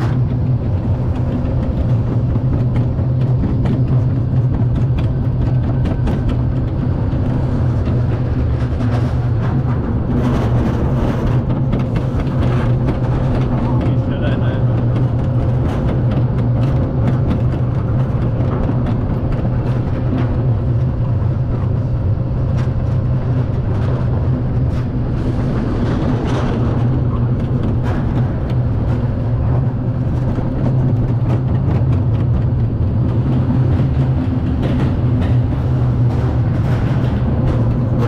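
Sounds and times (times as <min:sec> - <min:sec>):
coaster car rumbling on track: 0:00.0 - 0:38.0.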